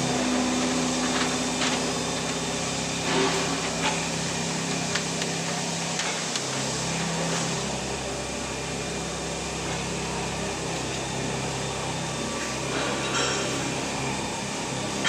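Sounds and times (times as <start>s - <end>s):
electric machinery hum: 0.0s - 15.0s.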